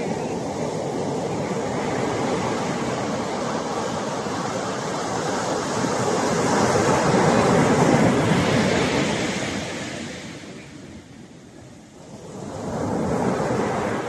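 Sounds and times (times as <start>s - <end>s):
ocean surf breaking: 0.0s - 14.0s.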